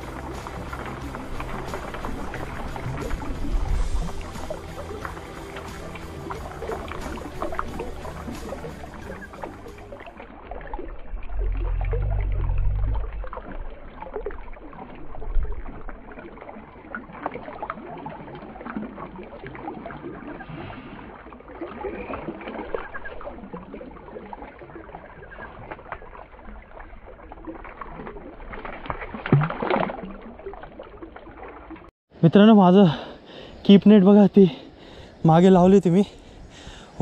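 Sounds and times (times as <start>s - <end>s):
shallow river water splashing: 0.0s - 31.9s.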